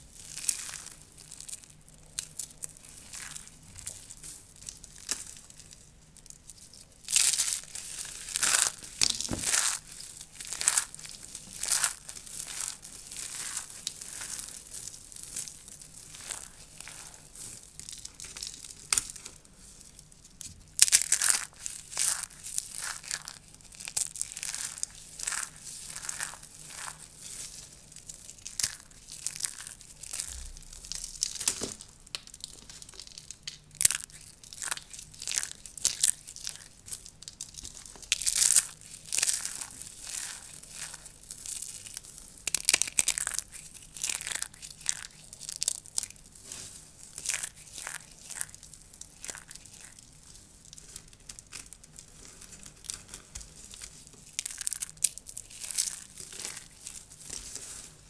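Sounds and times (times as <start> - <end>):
dry soap crunching: 0.0 - 58.0.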